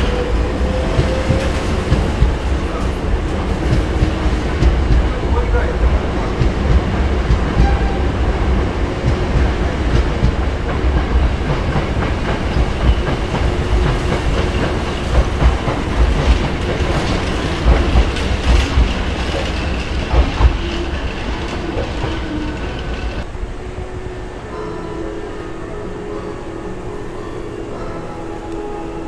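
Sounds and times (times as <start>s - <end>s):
wheels clattering over rail joints: 0.0s - 23.3s
electric train rumbling: 0.0s - 29.0s.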